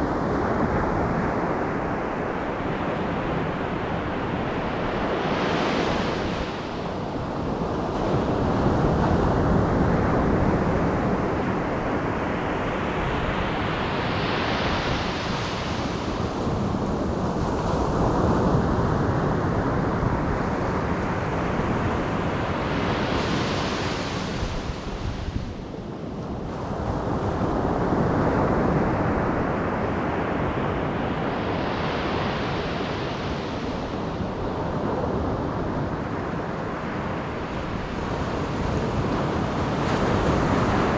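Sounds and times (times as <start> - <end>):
steady sea rumble: 0.0 - 40.9
waves breaking on beach: 2.0 - 40.9.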